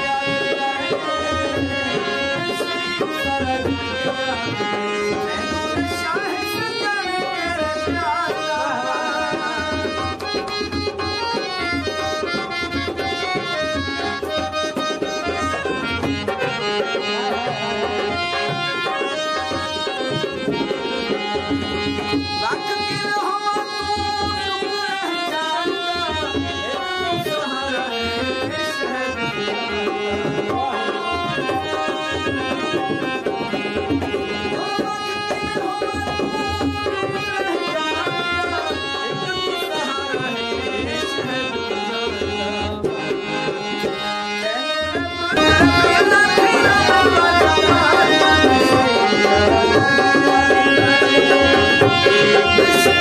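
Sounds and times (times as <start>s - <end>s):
tabla drumming: 0.0s - 53.0s.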